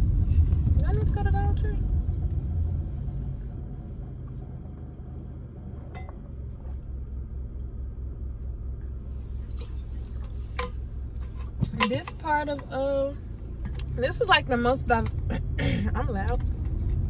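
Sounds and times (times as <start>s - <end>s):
car cabin engine rumble: 0.0s - 17.0s.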